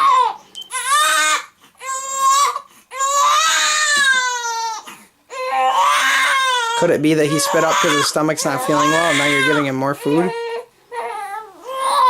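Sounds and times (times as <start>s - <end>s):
infant screaming and crying: 0.0s - 12.0s.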